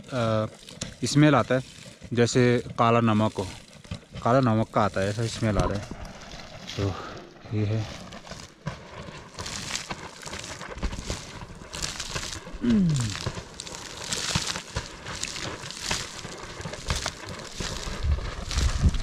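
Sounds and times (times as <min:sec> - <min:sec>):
hot spring bubbling: 0:00.0 - 0:19.0.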